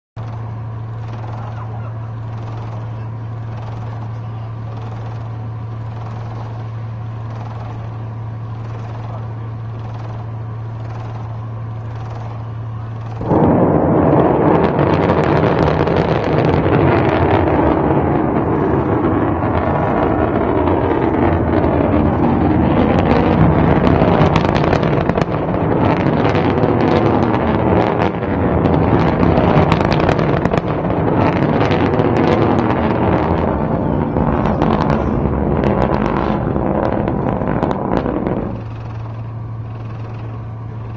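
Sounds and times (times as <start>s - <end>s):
low hum: 0.2s - 40.9s
rocket motor roaring: 0.2s - 40.9s.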